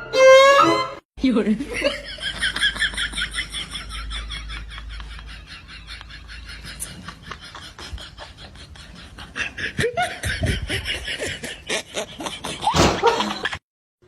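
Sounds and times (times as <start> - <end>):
person laughing: 1.6 - 13.6.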